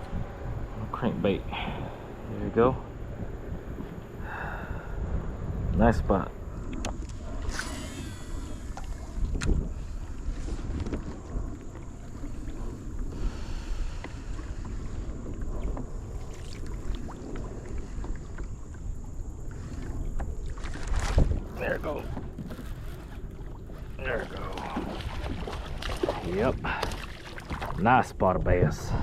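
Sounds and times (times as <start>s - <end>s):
water sounds: 0.0s - 29.0s
wind buffeting microphone: 0.0s - 29.0s.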